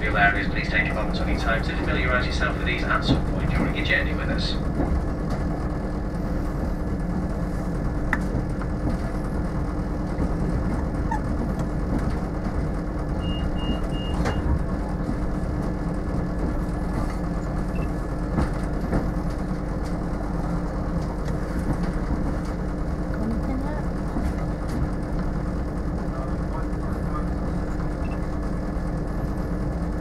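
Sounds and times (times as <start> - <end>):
clicks and knocks of train: 0.0 - 30.0
train rumbling from inside carriage: 0.0 - 30.0.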